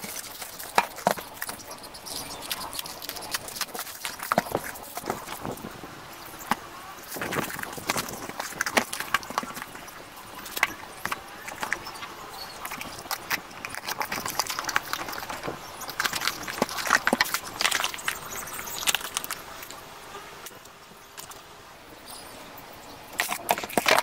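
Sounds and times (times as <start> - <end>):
plastic wrap crinkling and tearing: 0.0 - 5.7, 6.3 - 19.8, 23.2 - 24.0.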